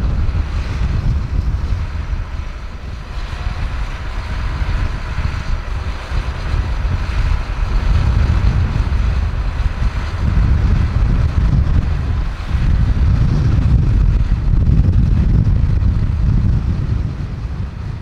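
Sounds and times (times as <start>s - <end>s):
tractor engine running: 0.0s - 18.0s
wind buffeting microphone: 0.0s - 18.0s.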